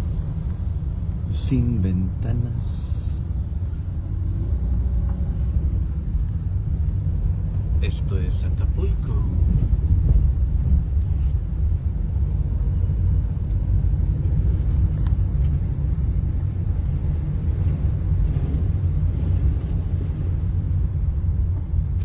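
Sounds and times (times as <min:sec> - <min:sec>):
car rumbling along road: 0:00.0 - 0:22.0.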